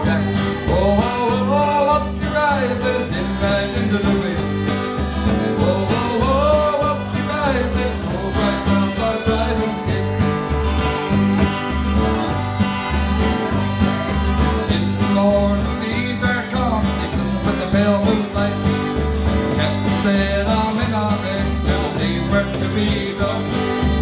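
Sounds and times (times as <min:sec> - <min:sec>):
acoustic guitar strumming: 0:00.0 - 0:24.0
button accordion: 0:00.0 - 0:24.0
cajon beat: 0:00.0 - 0:24.0
electric bass: 0:00.0 - 0:24.0.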